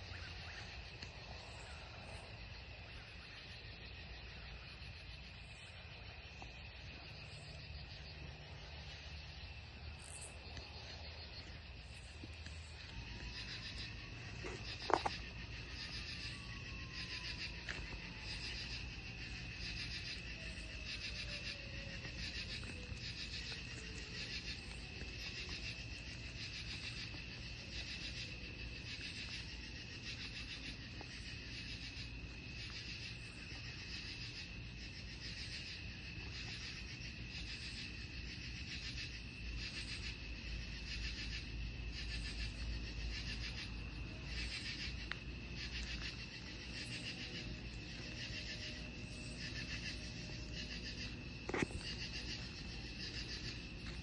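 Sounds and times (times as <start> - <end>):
insect chirping: 0.0 - 54.0
insect high-pitched trill: 0.0 - 54.0.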